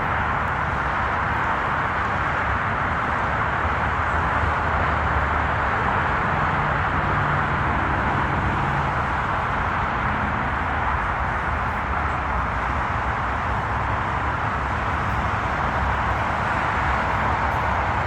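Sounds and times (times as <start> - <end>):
faint low engine hum: 0.0 - 18.0
tyres rushing on road: 0.0 - 18.0.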